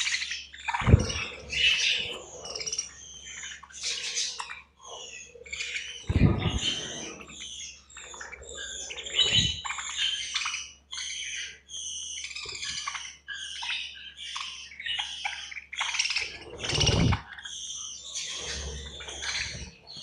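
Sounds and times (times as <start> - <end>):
budgerigars chattering: 0.0 - 20.0.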